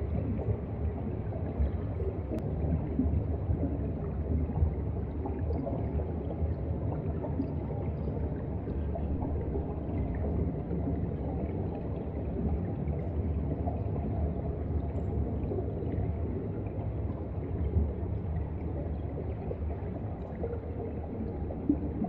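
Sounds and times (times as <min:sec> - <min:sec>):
underwater seawater rumble: 0:00.0 - 0:22.0.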